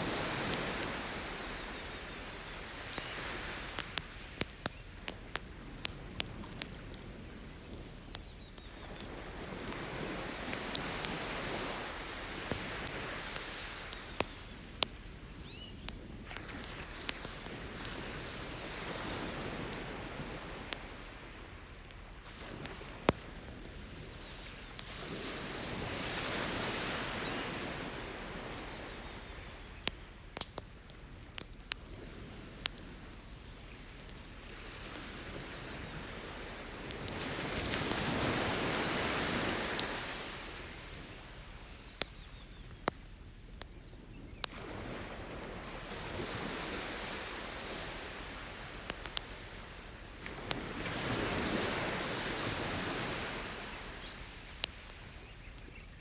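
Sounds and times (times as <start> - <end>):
ocean surf washing ashore: 0.0 - 7.9, 8.8 - 14.9, 16.2 - 29.8, 34.4 - 41.6, 44.5 - 55.0
campfire crackling and popping: 0.0 - 56.0.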